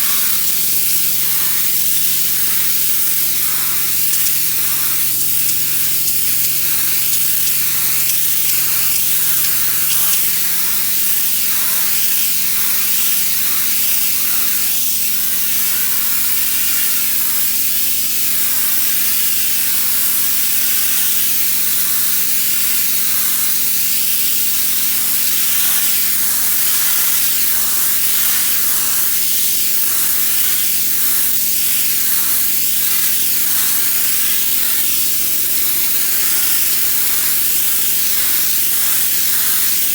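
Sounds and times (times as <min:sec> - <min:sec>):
pressure washer jet spraying: 0:00.0 - 0:39.9.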